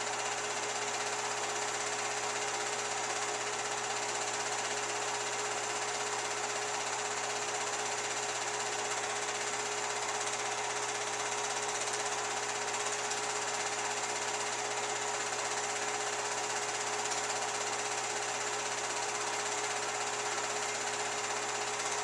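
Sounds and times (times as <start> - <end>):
film projector running: 0.0 - 22.0.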